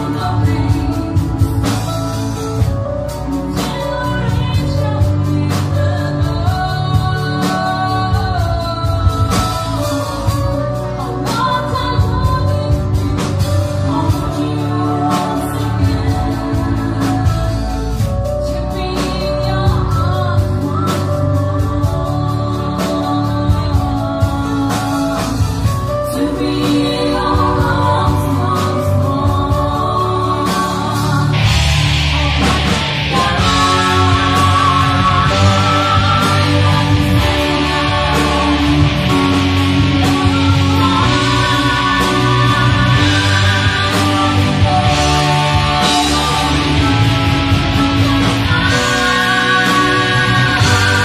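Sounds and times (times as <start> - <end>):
band playing live: 0.0 - 51.0
bass guitar: 0.0 - 51.0
electric guitar: 0.0 - 51.0
person singing: 0.0 - 51.0.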